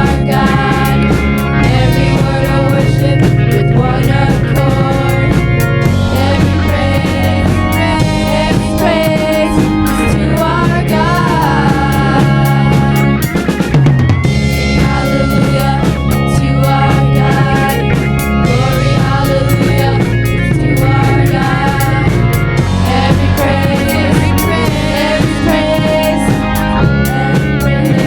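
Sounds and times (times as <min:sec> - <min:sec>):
bass guitar: 0:00.0 - 0:28.0
drums: 0:00.0 - 0:28.0
electric guitar: 0:00.0 - 0:28.0
person singing: 0:00.0 - 0:28.0.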